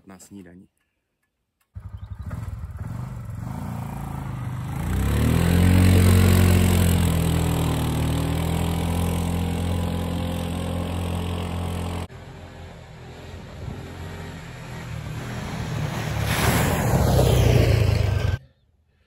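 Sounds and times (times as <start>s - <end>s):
quad bike engine revving: 1.8s - 18.4s.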